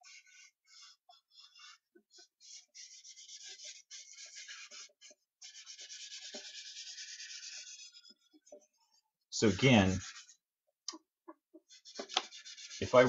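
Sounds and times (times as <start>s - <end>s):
charcoal scratching on paper: 0.0s - 10.4s, 11.6s - 13.0s.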